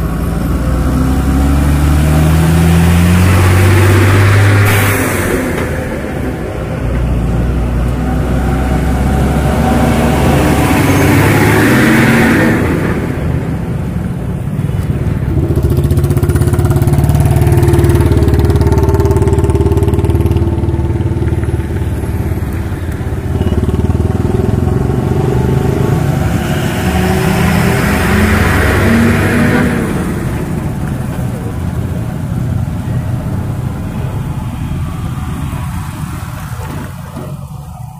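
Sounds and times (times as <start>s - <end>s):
diesel trucks passing: 0.0s - 37.9s
lorry engine droning: 0.0s - 37.9s
motorcycles running: 0.0s - 37.9s.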